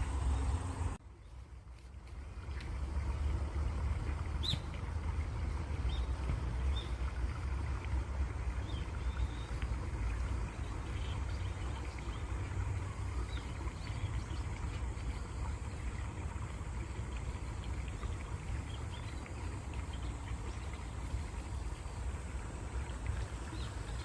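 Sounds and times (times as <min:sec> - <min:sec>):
flowing water rushing: 0:00.0 - 0:24.0.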